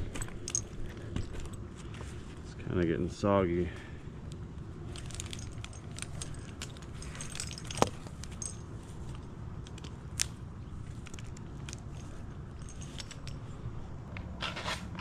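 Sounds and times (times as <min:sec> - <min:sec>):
climbing gear clinking: 0:00.0 - 0:15.0.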